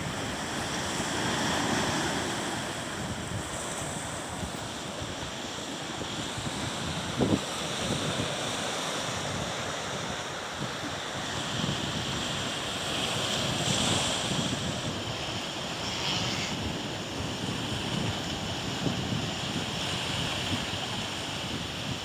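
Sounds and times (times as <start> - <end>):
waves: 0.0 - 22.0
wind: 0.0 - 22.0
wind buffeting microphone: 0.0 - 22.0.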